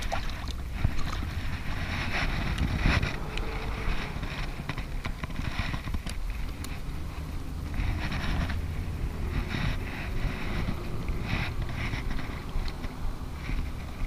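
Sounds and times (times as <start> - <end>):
wind buffeting microphone: 0.0 - 14.0
faint clicks and scuffs: 0.1 - 14.0.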